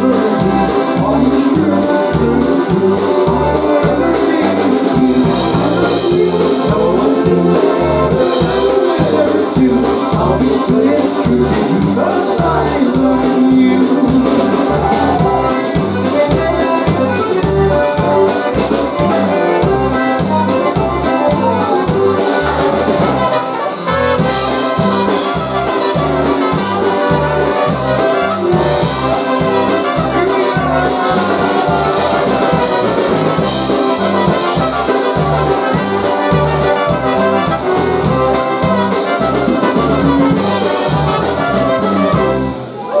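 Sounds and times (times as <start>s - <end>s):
live polka band music: 0.0s - 43.0s.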